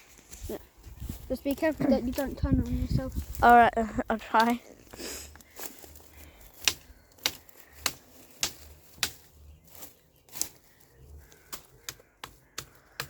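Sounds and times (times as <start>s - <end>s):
footsteps through undergrowth: 0.0s - 12.8s.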